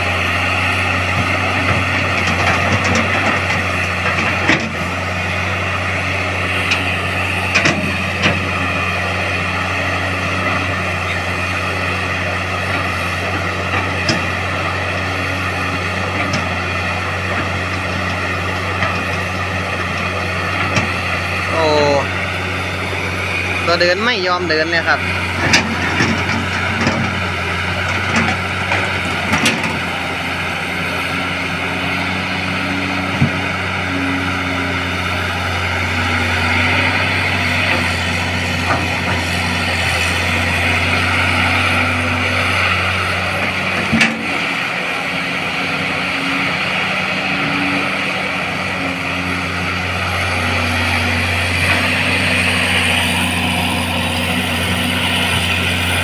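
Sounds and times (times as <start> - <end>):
diesel excavator engine straining: 0.0 - 56.0.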